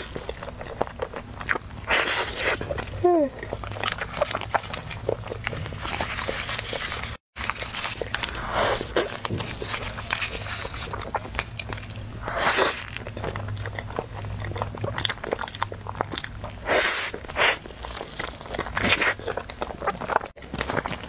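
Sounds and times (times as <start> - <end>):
biting and chewing mouth sounds: 0.0 - 21.0.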